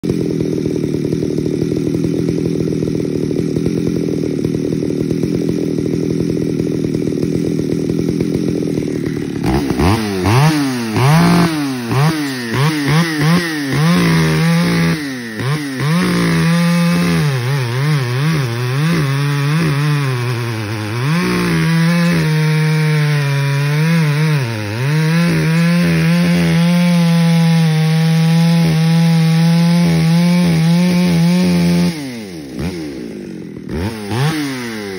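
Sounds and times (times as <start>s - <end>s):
chainsaw cutting through log: 0.0s - 34.9s
chainsaw revving and idling: 0.0s - 34.9s.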